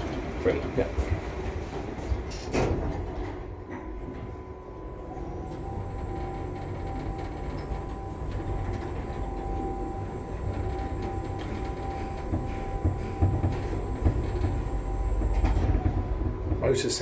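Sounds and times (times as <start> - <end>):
lift low rumble: 0.0 - 17.0
faint steady whine: 2.3 - 17.0.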